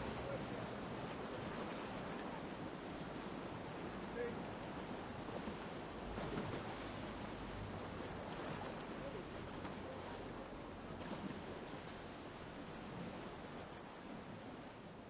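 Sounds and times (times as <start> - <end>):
white water rushing: 0.0 - 15.0.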